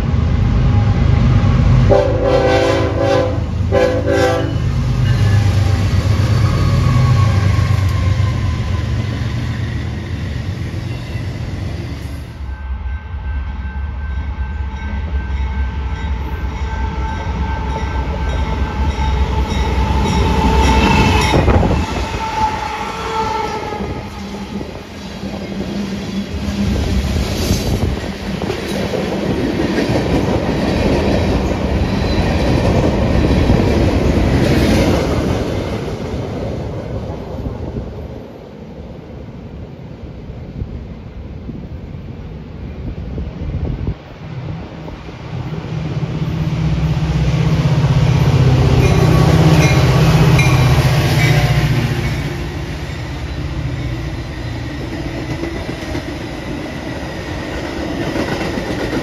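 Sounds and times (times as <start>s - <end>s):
freight trains rumbling and clattering: 0.0s - 59.0s.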